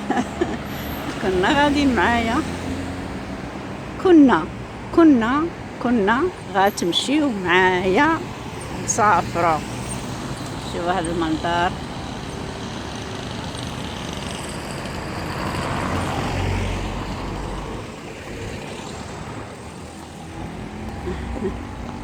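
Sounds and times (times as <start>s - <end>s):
traffic rumbling: 0.0s - 22.0s.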